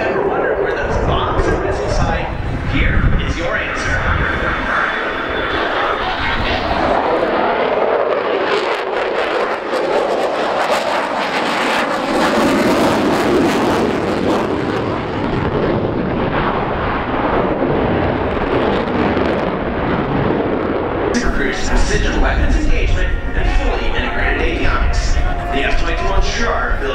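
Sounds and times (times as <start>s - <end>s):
jet aircraft flying low: 0.0s - 26.9s.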